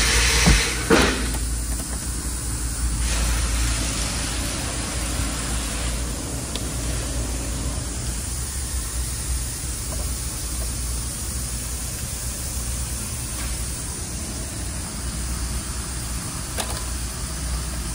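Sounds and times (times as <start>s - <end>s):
drum fans rushing hiss: 0.0s - 15.8s
low fan hum: 0.0s - 17.9s.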